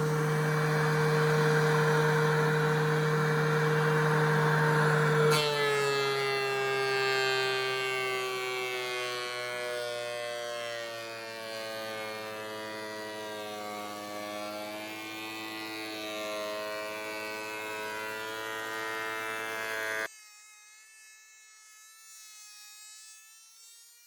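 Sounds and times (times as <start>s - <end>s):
thickness planer motor whine: 0.0s - 20.1s.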